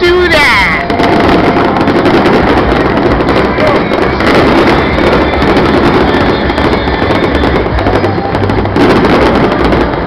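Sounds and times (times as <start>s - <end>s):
fireworks popping and crackling: 0.0s - 10.0s.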